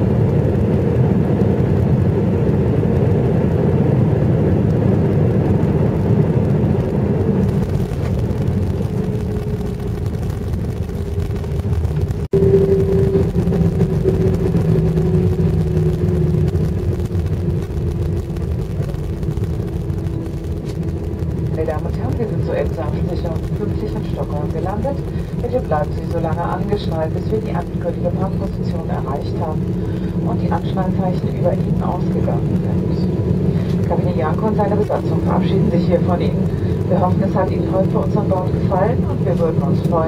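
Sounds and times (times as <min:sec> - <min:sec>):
whine falling in pitch: 0:00.0 - 0:38.2
rumble of engines and airflow: 0:00.0 - 0:40.0.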